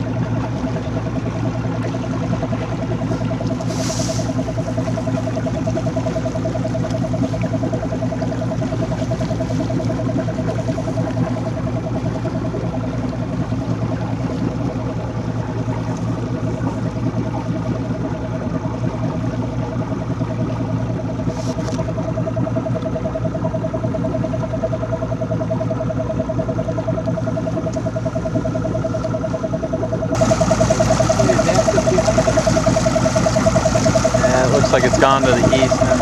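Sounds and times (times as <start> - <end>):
outboard motor running: 0.0 - 36.0.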